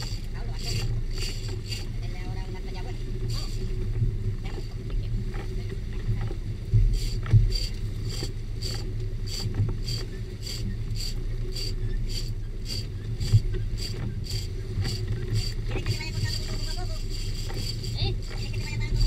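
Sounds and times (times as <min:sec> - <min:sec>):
fishing reel whirring: 0:00.0 - 0:05.6, 0:06.2 - 0:19.0
boat engine running: 0:00.0 - 0:19.0.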